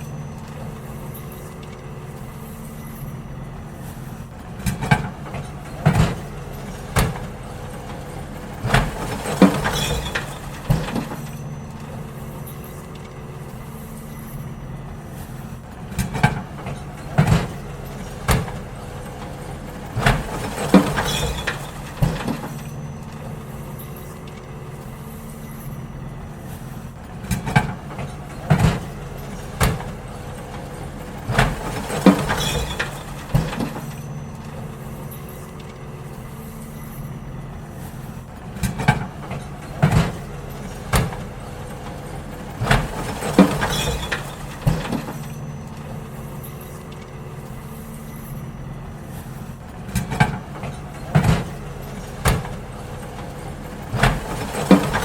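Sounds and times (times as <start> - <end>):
bins clanking and banging: 0.0 - 55.0
diesel engine running: 0.0 - 55.0.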